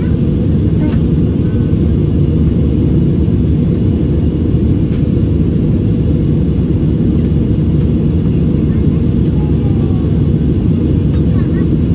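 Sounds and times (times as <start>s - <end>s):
airplane cabin rumble: 0.0s - 11.9s.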